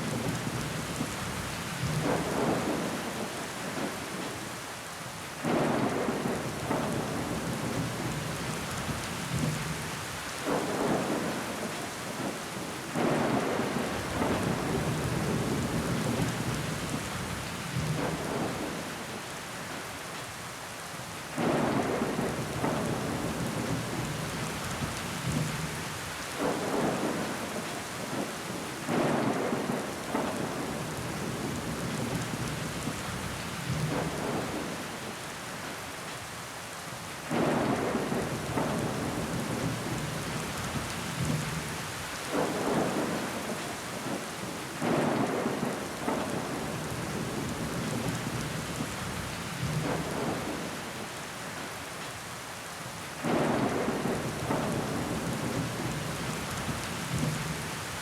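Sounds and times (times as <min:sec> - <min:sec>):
rain pattering on window glass: 0:00.0 - 0:04.6, 0:05.3 - 0:20.3, 0:21.3 - 0:36.4, 0:37.2 - 0:52.3, 0:53.2 - 0:58.0.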